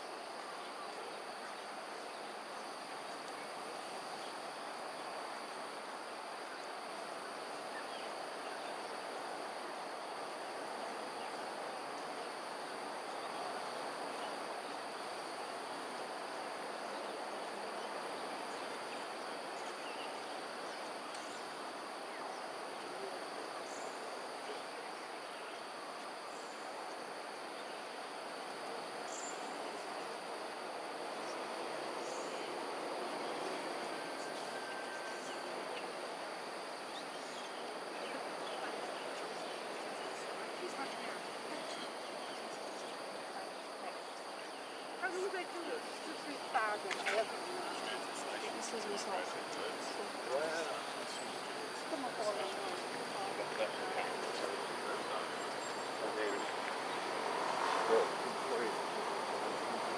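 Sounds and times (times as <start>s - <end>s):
insect chorus high-pitched tones: 0.0s - 59.9s.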